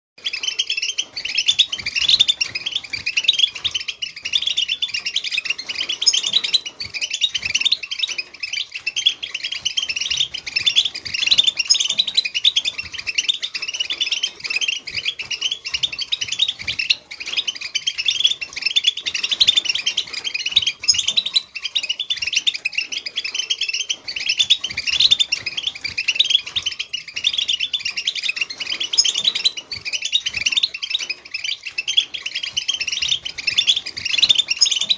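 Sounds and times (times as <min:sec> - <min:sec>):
goldfinches twittering: 0:00.2 - 0:34.9.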